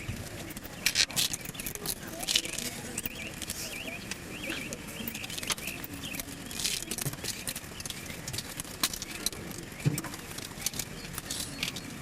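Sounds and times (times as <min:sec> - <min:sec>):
bird chirping: 0:00.7 - 0:12.0.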